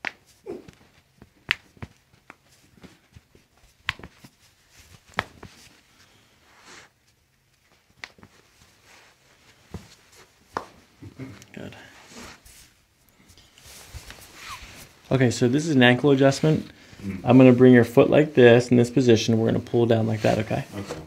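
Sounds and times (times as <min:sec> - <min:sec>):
soft handling noise: 0:00.1 - 0:21.0.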